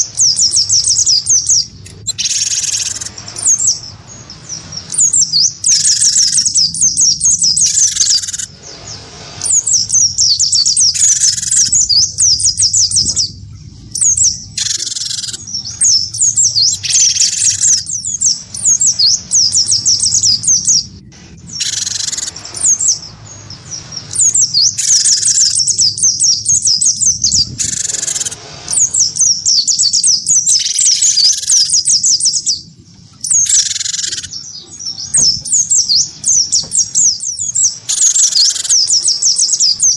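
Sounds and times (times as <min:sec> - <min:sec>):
harsh bird calls: 0:00.0 - 0:39.9
high rapid bird twittering: 0:00.0 - 0:39.9.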